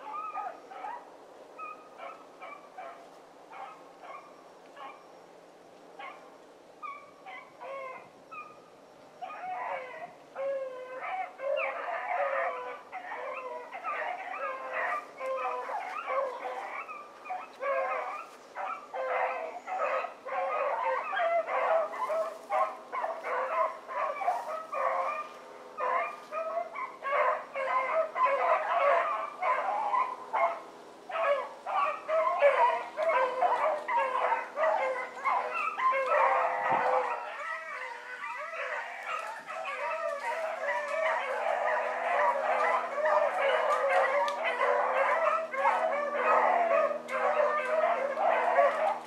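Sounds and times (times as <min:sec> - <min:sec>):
dogs baying and barking: 0:00.0 - 0:05.2, 0:09.2 - 0:49.0.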